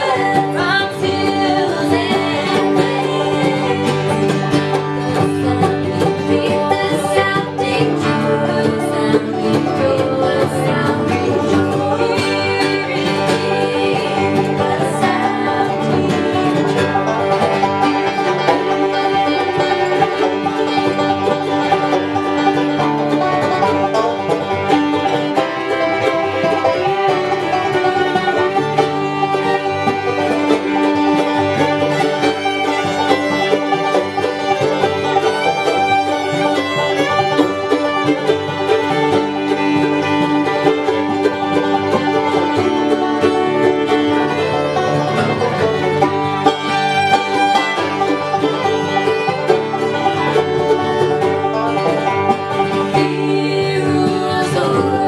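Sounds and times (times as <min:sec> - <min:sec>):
bluegrass banjo and fiddle music: 0:00.0 - 0:55.0.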